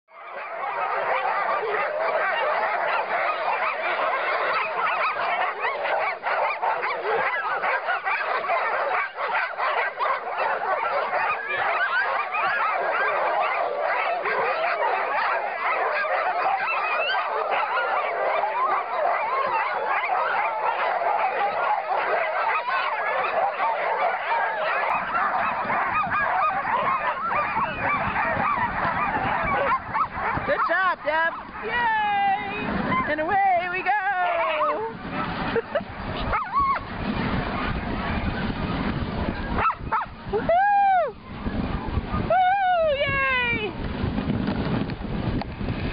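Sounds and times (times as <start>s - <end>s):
sled dogs barking and howling: 0.1s - 44.3s.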